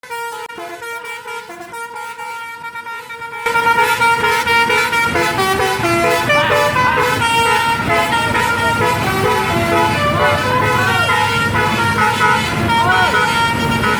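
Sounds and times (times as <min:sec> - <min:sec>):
musical air horns playing a tune: 0:00.0 - 0:13.9.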